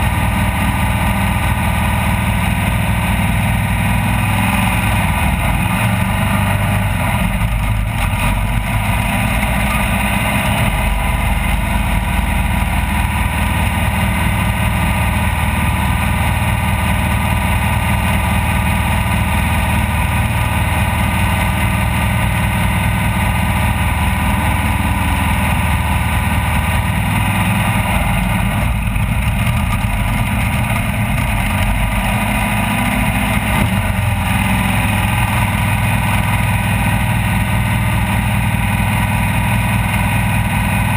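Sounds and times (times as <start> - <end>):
off-road vehicle engine running: 0.0 - 40.9
vehicle rattling over rough ground: 0.0 - 40.9.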